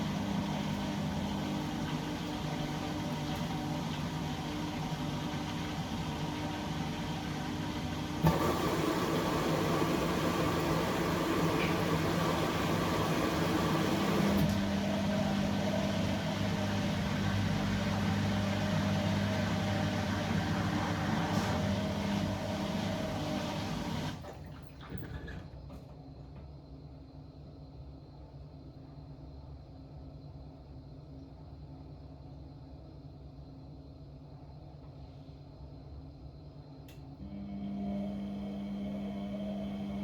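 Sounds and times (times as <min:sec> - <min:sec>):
washing machine humming: 0:00.0 - 0:29.0, 0:35.9 - 0:40.0.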